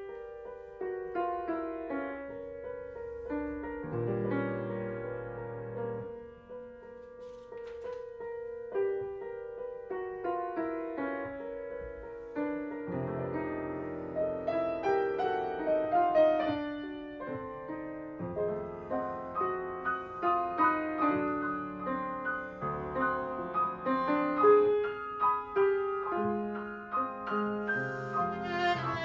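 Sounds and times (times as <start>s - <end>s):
grand piano playing: 0.0s - 29.0s.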